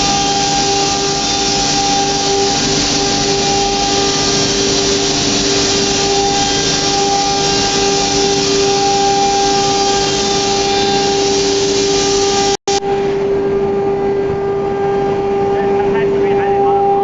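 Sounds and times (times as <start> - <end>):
router spindle whine: 0.0 - 17.0
rushing noise: 0.0 - 17.0.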